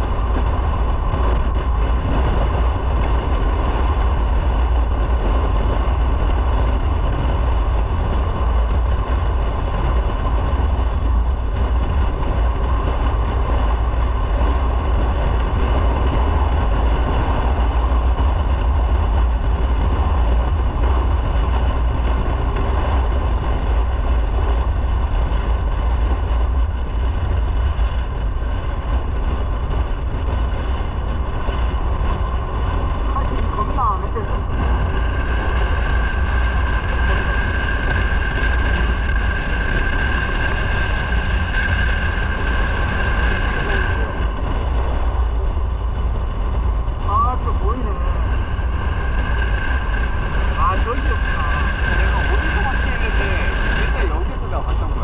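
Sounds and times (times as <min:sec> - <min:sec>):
motorcycle engine rumble: 0:00.0 - 0:55.0.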